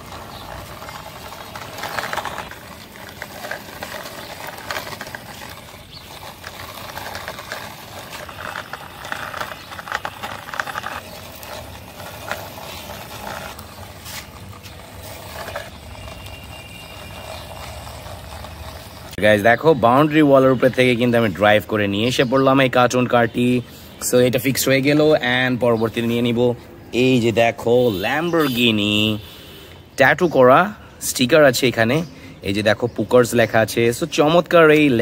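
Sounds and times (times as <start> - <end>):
toy car wheels rattling on concrete: 0.0 - 29.3, 31.2 - 35.0.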